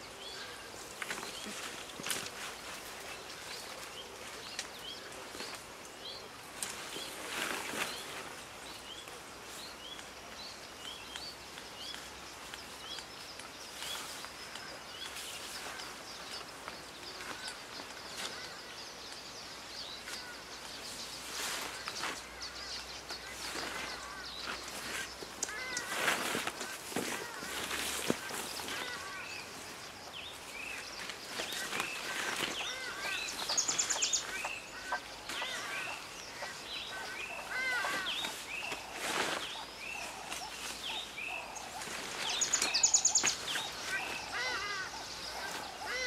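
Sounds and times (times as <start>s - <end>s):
steady background hiss: 0.0s - 46.0s.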